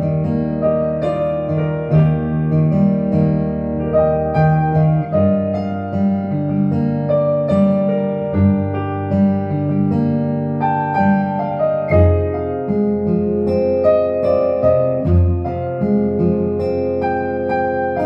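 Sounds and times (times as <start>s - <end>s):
digital piano playing a melody: 0.0s - 18.0s.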